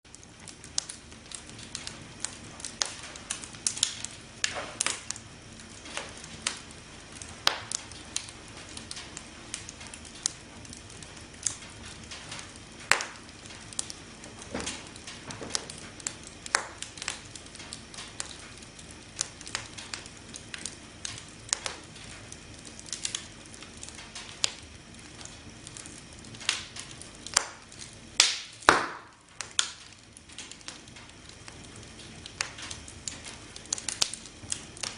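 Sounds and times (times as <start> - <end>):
campfire crackling and popping: 0.1 - 34.9.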